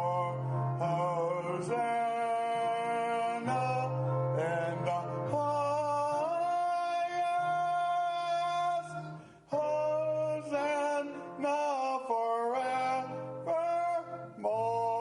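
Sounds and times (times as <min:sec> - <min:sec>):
man singing long held notes: 0:00.0 - 0:15.0.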